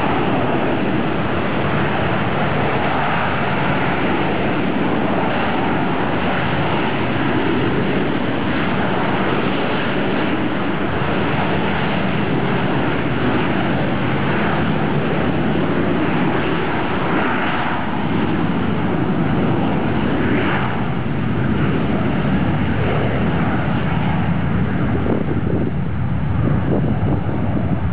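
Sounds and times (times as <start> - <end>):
jet engines roaring: 0.0 - 27.9.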